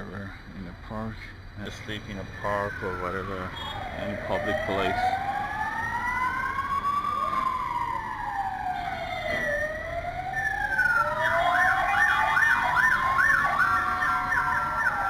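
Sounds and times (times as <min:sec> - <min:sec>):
siren wailing: 0:01.8 - 0:15.0
siren yelping: 0:01.9 - 0:15.0.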